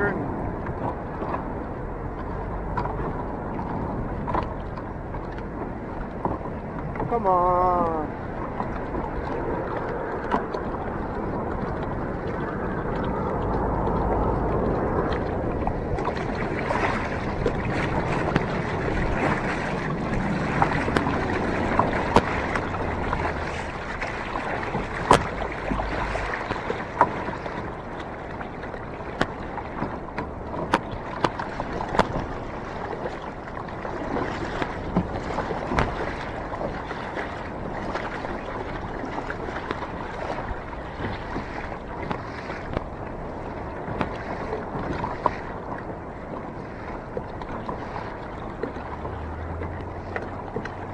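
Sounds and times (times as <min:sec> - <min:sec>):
knocks and splashes against hull: 0:00.0 - 0:50.9
water lapping around kayak: 0:00.0 - 0:50.9.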